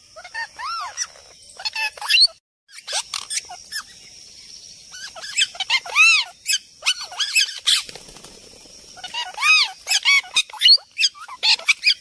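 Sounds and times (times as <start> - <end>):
birds chirping and whistling: 0.1 - 12.0.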